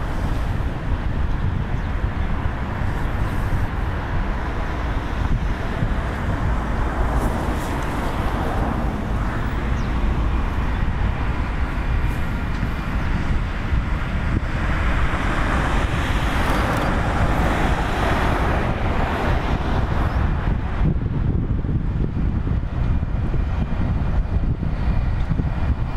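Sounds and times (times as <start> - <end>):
railcar rumbling on track: 0.0 - 25.9
wind buffeting microphone: 0.0 - 25.9.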